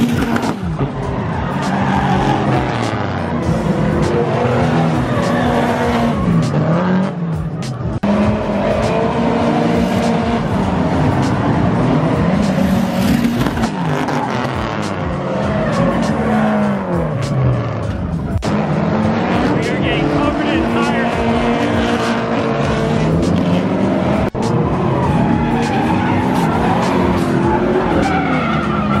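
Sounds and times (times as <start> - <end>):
tire squeal: 0.0 - 7.1, 8.0 - 29.0
car engines revving hard: 0.0 - 29.0.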